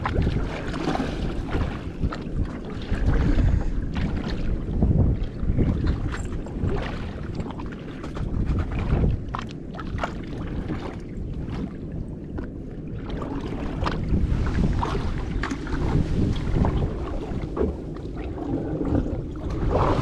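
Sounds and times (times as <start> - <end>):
water washing against hull: 0.0 - 20.0
wind buffeting microphone: 0.0 - 20.0.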